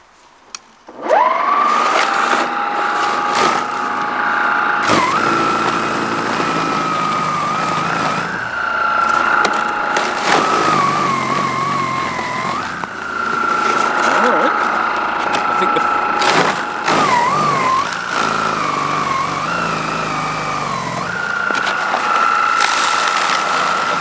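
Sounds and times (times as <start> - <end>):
cordless snow blower whining: 0.9 - 24.0.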